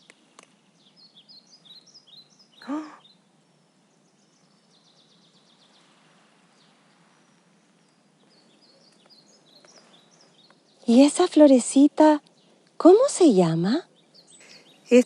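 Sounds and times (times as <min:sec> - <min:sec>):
faint steady hiss: 0:00.0 - 0:15.0
small birds chirping: 0:00.0 - 0:15.0.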